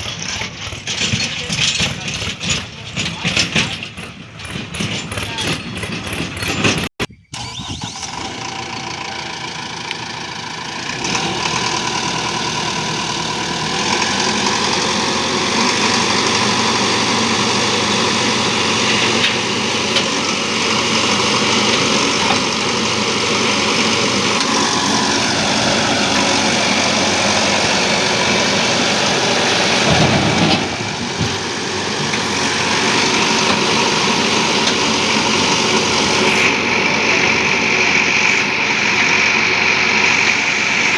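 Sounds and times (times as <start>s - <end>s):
diesel engines running: 0.0s - 40.9s.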